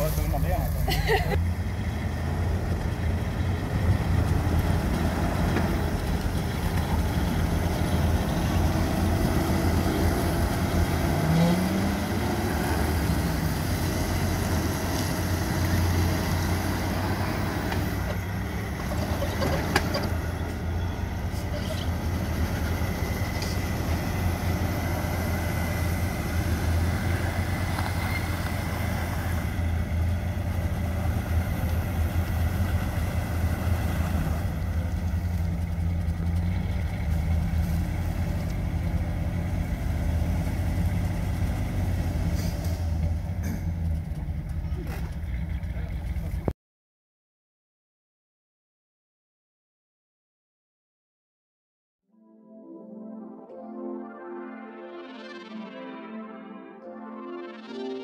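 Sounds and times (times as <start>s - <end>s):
vehicle engines idling: 0.0s - 46.5s.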